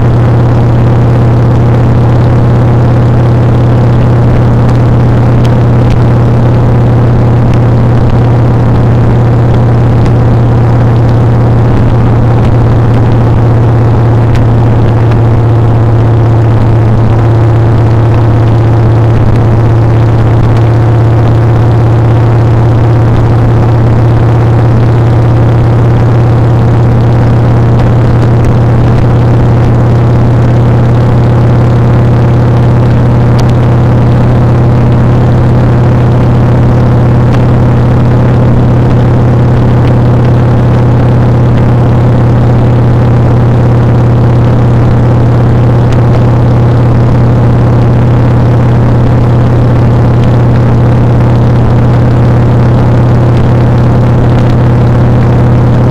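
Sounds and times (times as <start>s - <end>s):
motorcycle engine droning: 0.0s - 55.9s.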